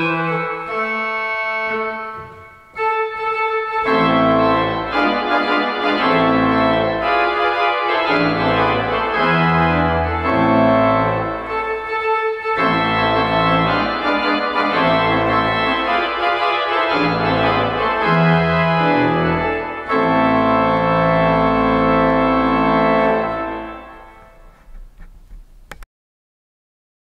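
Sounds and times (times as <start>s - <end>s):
organ playing slow chords: 0.0s - 24.5s.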